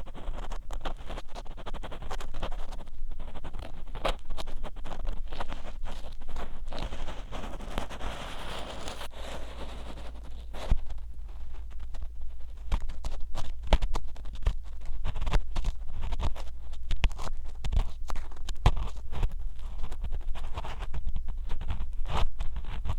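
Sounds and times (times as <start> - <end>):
ear pick clicks and scrapes: 0.0 - 22.9
ear pick scratchy rubbing: 0.0 - 22.9.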